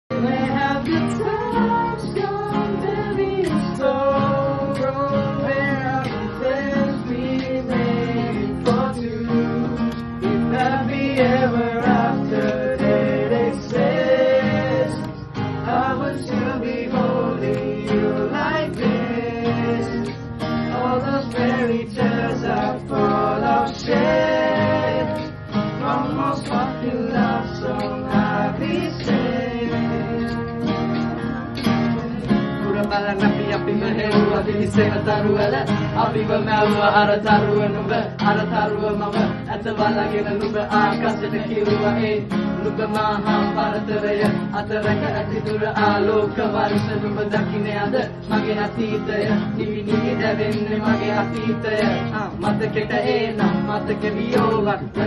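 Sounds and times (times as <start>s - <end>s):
voices singing in harmony: 0.1s - 55.0s.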